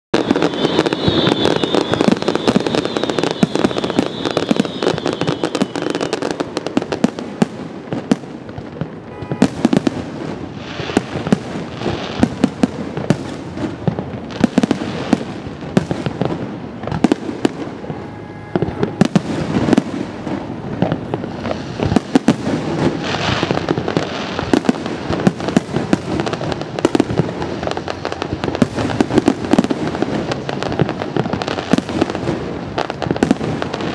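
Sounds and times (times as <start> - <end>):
fireworks bursting and crackling: 0.1 - 33.9.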